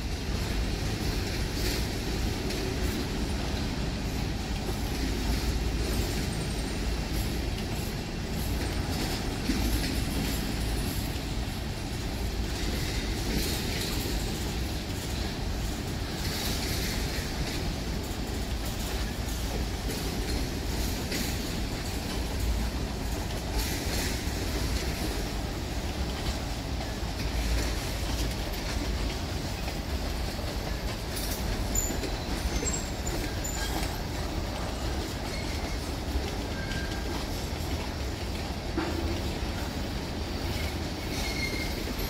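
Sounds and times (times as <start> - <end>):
freight train wheels rumbling on rails: 0.0 - 42.0
train cars clanking: 0.0 - 42.0.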